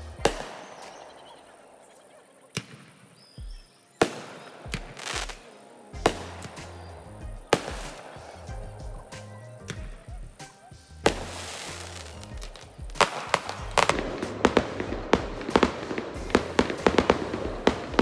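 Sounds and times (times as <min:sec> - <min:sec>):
fireworks bangs: 0:00.0 - 0:18.0
fireworks crackling rush: 0:00.0 - 0:18.0.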